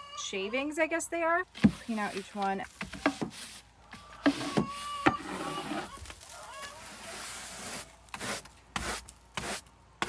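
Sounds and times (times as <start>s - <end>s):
wood shavings being scraped: 1.5s - 9.7s.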